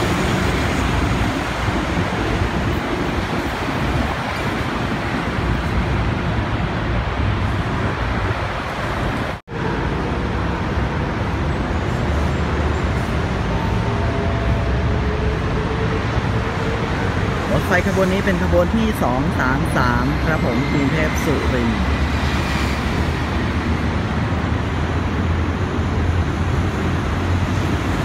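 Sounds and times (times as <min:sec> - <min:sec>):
diesel train rumbling: 0:00.0 - 0:28.0
road traffic: 0:00.0 - 0:28.0.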